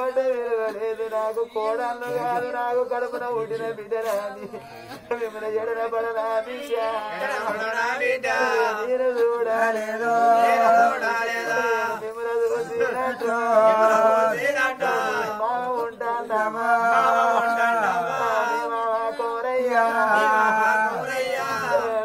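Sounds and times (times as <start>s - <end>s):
man singing a lament: 0.0s - 22.0s.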